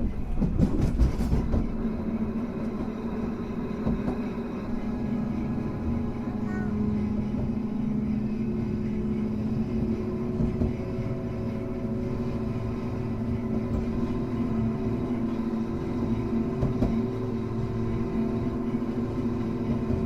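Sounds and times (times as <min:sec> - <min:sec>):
tram motor hum: 0:00.0 - 0:20.0
tram wheels rumbling on rail: 0:00.0 - 0:20.0.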